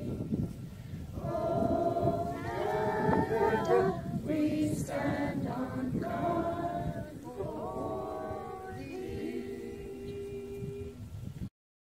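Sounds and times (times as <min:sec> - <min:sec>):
choir singing: 0:01.2 - 0:11.0.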